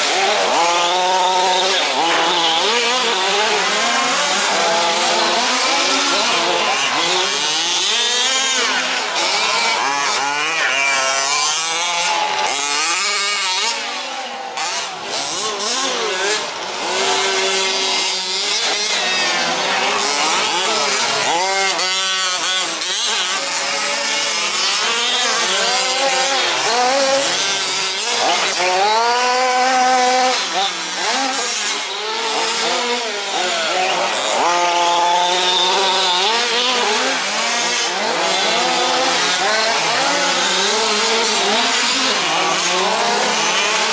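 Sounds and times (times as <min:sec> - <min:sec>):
small two-stroke engines revving: 0:00.0 - 0:43.9.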